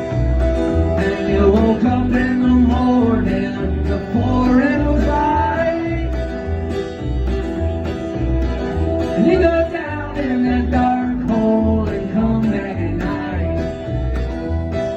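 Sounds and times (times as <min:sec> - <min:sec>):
acoustic country band playing: 0:00.0 - 0:14.9.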